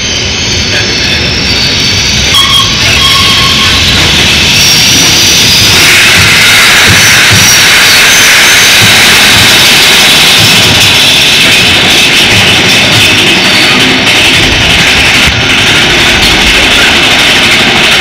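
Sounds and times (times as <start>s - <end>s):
roller coaster wheels rushing on track: 0.0s - 18.0s.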